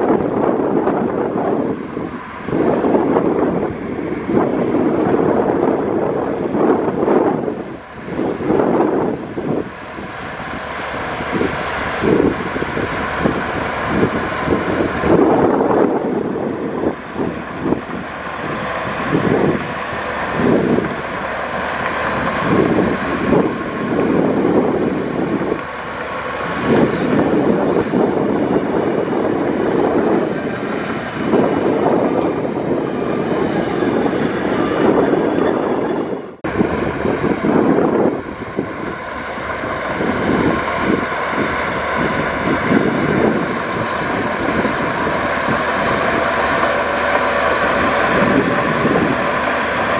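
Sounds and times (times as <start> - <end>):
heavy diesel machinery engine: 0.0 - 49.9.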